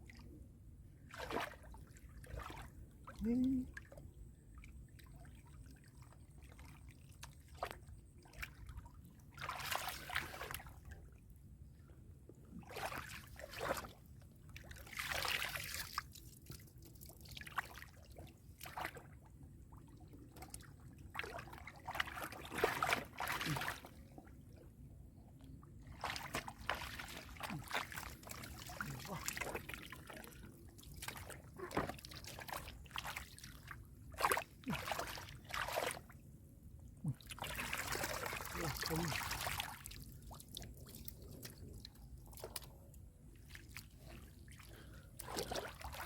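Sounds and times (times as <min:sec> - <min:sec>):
muddy water splashing: 0:01.0 - 0:11.0, 0:12.5 - 0:24.4, 0:25.8 - 0:36.2, 0:37.0 - 0:46.0.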